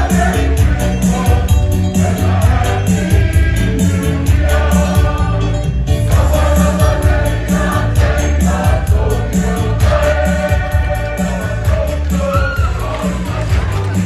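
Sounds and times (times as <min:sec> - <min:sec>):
choir singing: 0:00.0 - 0:14.0
music with heavy bass beat: 0:00.0 - 0:14.0.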